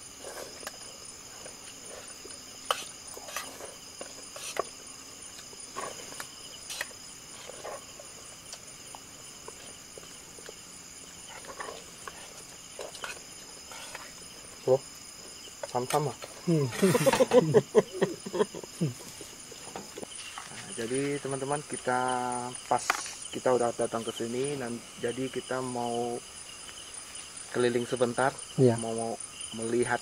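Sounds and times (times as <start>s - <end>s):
crickets and insects chirring: 0.0s - 30.0s.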